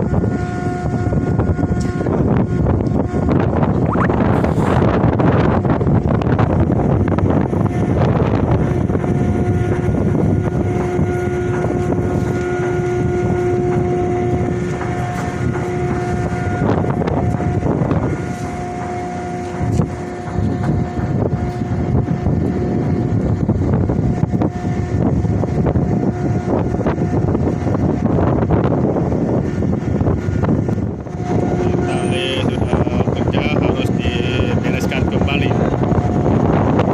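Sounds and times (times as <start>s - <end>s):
heavy machinery rumble: 0.0s - 36.9s
winch whining: 0.0s - 36.9s
wind on microphone: 0.0s - 36.9s.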